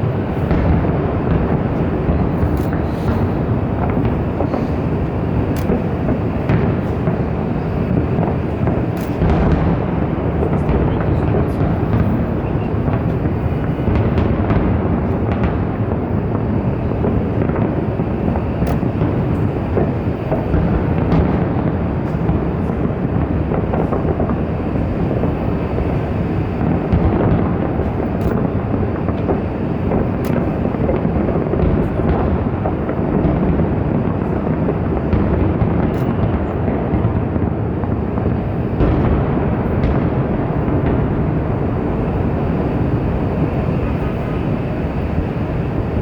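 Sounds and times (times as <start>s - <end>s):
fireworks rumbling: 0.0s - 46.0s
sharp firework cracks: 0.0s - 46.0s.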